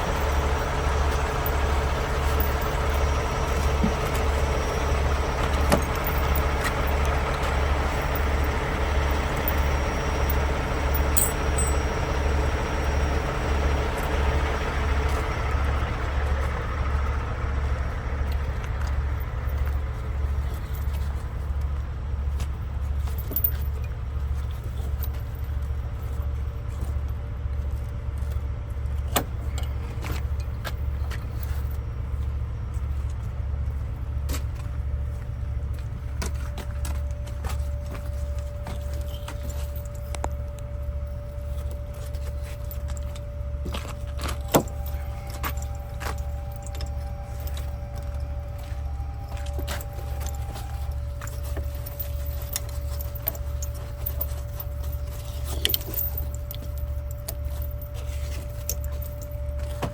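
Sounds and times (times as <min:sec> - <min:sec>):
road noise: 0:00.0 - 0:59.9
truck diesel engine droning: 0:00.0 - 0:59.9.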